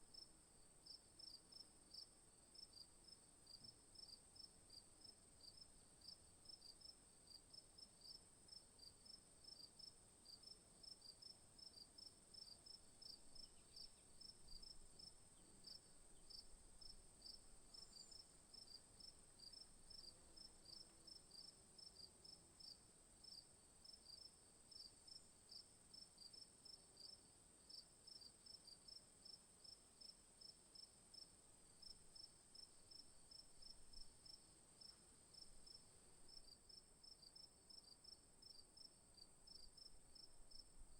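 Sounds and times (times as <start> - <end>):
insect chorus buzzing and chirping: 0.1 - 40.9.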